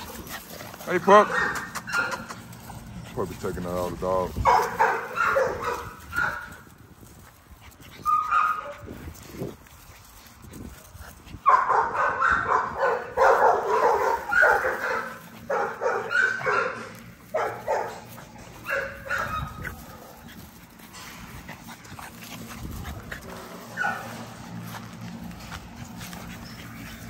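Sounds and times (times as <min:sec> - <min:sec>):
puppies yipping and barking: 0:00.0 - 0:10.4, 0:11.3 - 0:27.0.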